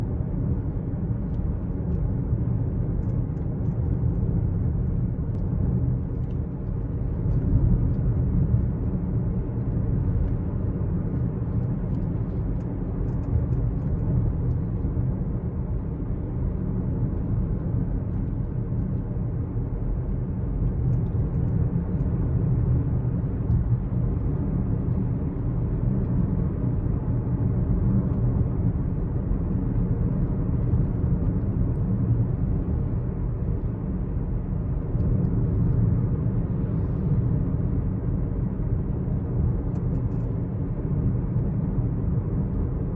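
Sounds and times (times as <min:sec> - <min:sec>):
car low rumble: 0:00.0 - 0:42.9.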